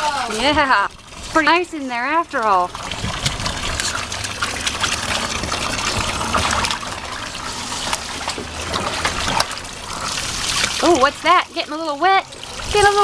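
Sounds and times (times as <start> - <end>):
water splashing into a pool: 0.0 - 13.0.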